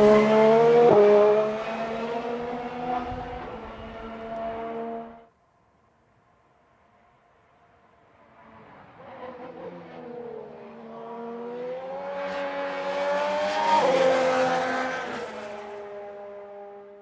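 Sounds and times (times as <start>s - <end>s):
racing car passing at speed: 0.0s - 5.3s, 8.2s - 17.0s.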